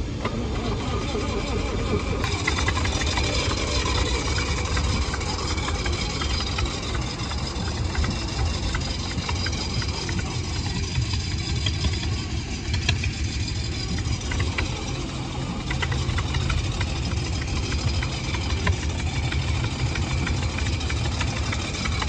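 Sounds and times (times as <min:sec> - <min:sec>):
welder engine idling: 0:00.0 - 0:22.0.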